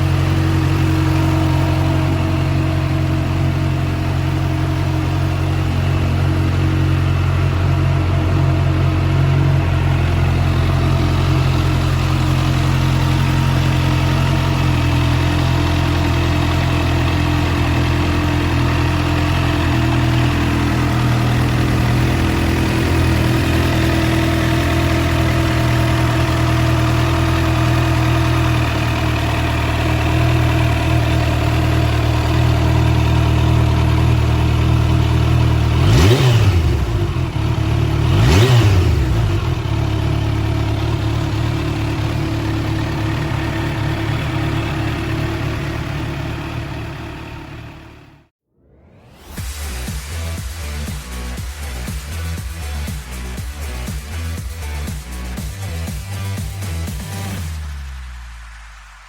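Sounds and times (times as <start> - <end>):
motorcycle engine idling and revving: 0.0 - 48.3, 49.2 - 59.0.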